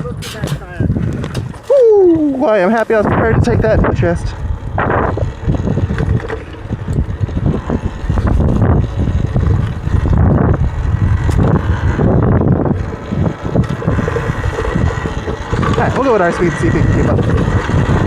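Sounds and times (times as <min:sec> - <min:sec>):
tyres on dirt: 0:00.0 - 0:18.0
wind buffeting microphone: 0:00.0 - 0:18.0
faint electric motor whine: 0:00.6 - 0:18.0.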